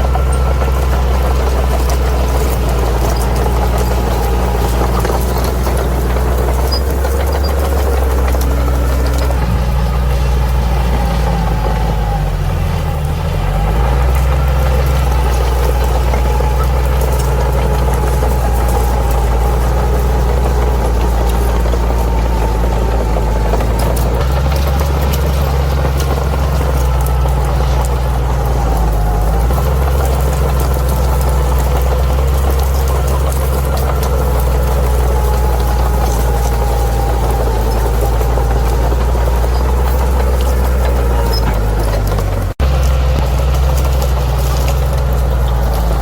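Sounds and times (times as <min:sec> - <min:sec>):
bulldozer diesel engine running: 0:00.0 - 0:46.0.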